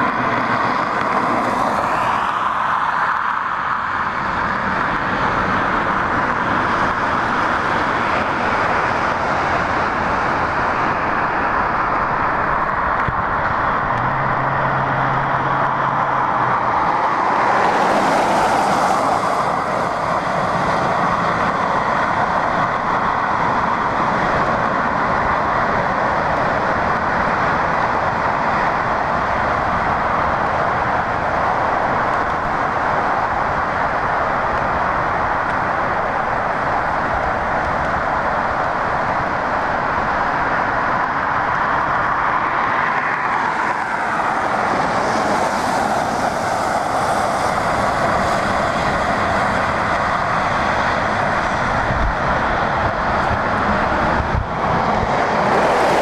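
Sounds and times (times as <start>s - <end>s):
passing vehicle: 0.0s - 56.0s
traffic on snowy road: 0.0s - 56.0s.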